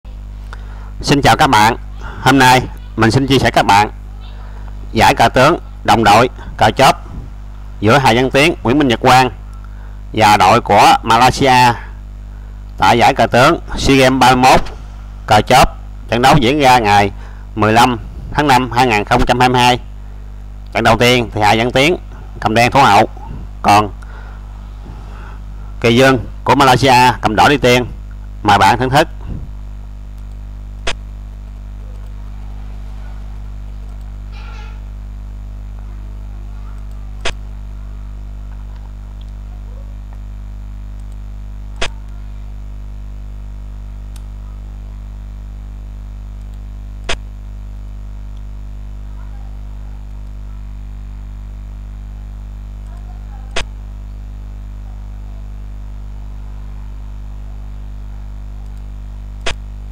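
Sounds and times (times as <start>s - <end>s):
low hum: 0.1s - 59.9s.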